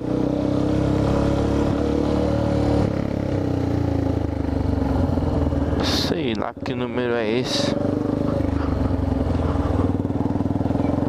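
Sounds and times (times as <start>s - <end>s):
motorcycle engine with loud exhaust: 0.0s - 11.0s.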